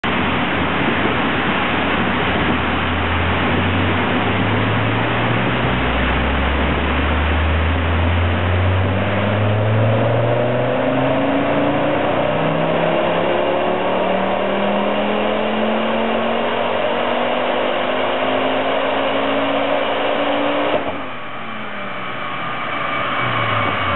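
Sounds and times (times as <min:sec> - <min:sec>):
car engine revving under load: 0:02.4 - 0:23.9.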